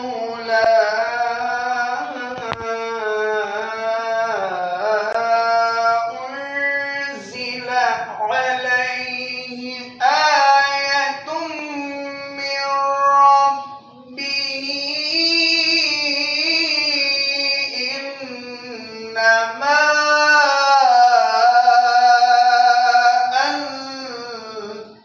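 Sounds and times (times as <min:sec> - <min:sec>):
person reciting melodically: 0:00.0 - 0:25.0.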